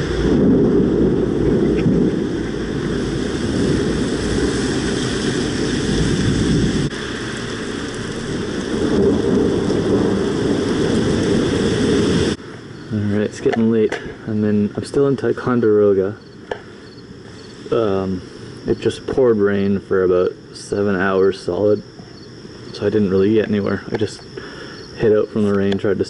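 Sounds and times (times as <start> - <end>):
heavy rain: 0.0 - 26.0
thunder rumbling: 0.0 - 26.0.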